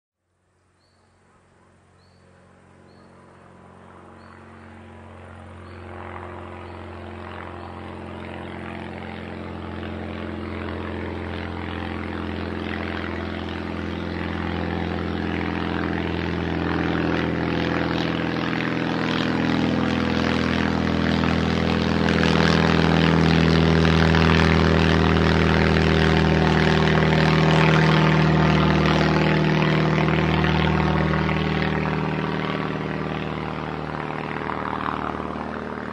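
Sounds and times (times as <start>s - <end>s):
small plane engine and propeller: 0.2s - 35.9s.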